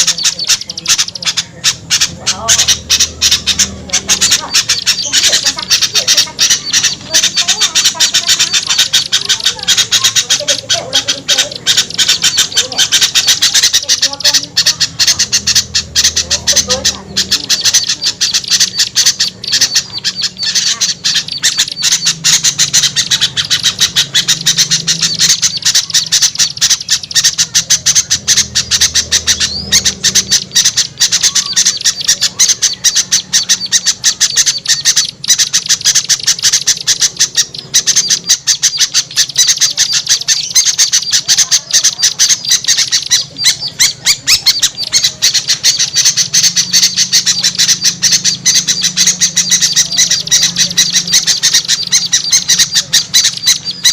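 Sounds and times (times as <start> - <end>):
small birds chattering and scolding: 0.0 - 53.9.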